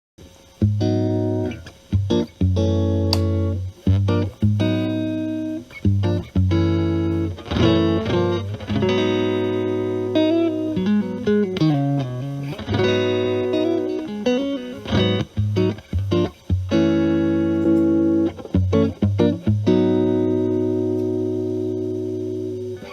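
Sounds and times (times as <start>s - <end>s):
clean electric guitar: 0.2s - 22.9s.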